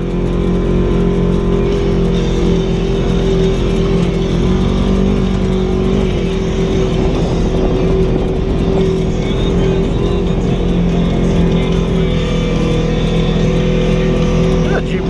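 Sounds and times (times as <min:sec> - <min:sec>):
rough driving noise: 0:00.0 - 0:15.0
vehicle engine droning whine: 0:00.0 - 0:15.0.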